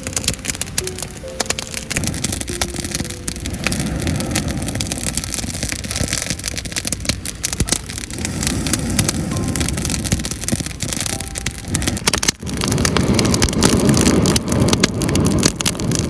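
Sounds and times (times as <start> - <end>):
campfire crackling and popping: 0.0 - 16.0
steady low rumble: 0.0 - 16.0.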